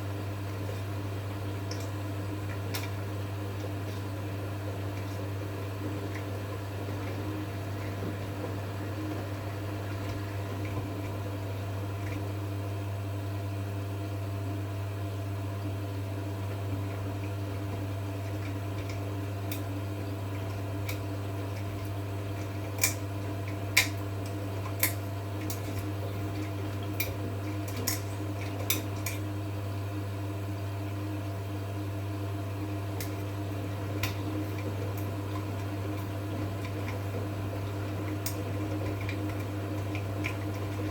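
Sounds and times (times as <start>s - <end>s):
washing machine humming: 0.0s - 40.9s.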